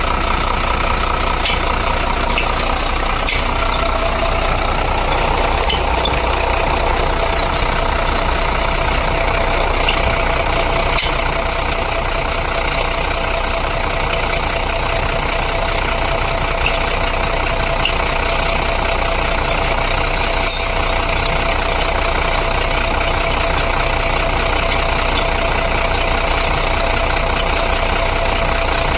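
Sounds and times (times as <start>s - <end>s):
bus engine idling: 0.0s - 28.9s
engine pulley whine: 0.0s - 28.9s.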